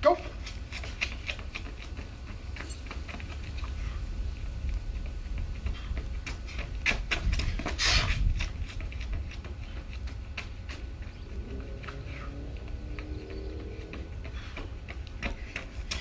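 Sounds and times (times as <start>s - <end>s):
running footsteps: 0.0s - 16.0s
wind rumble on microphone: 0.4s - 16.0s.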